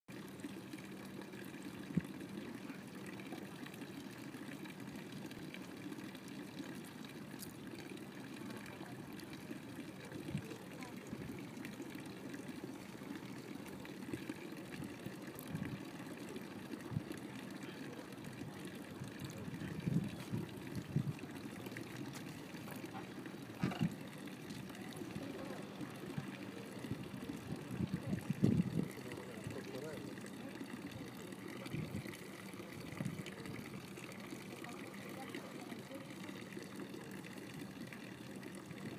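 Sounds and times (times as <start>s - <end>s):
water trickling into basin: 0.1s - 38.9s.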